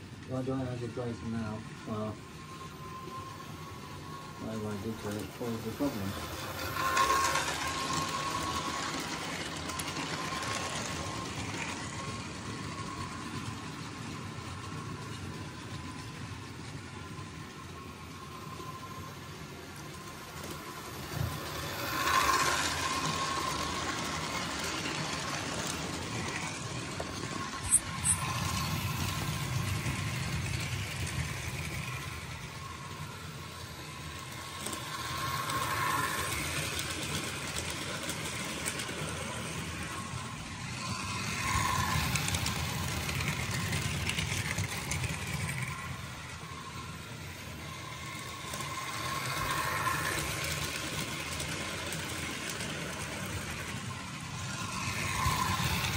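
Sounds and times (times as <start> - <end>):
model train motor hum: 0.0 - 55.9
wheels rattling on rail: 0.0 - 55.9.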